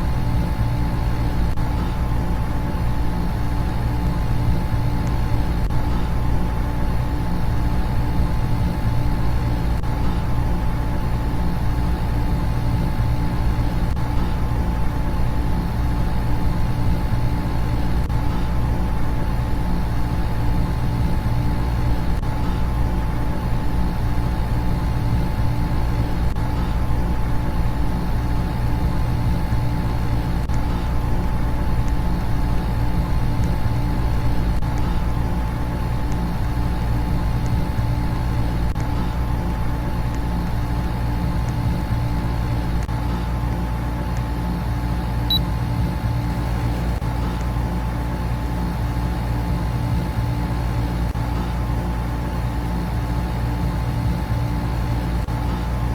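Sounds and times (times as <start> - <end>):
air conditioner and fans humming: 0.0 - 55.9
faint constant tones: 0.0 - 55.9.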